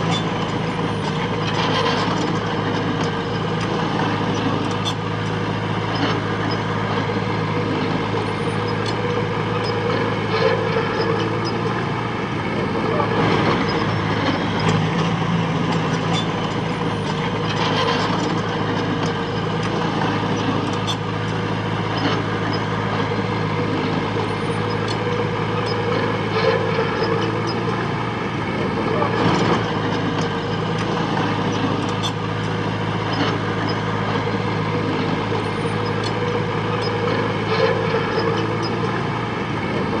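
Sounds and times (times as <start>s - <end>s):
heavy machinery diesel engine: 0.0s - 40.0s.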